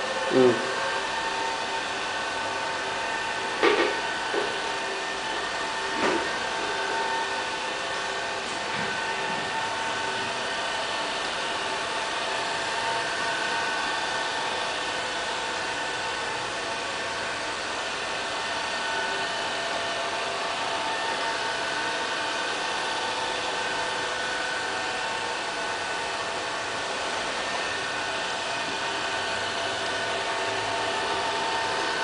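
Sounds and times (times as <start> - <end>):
robot vacuum cleaner whirring: 0.0 - 32.0.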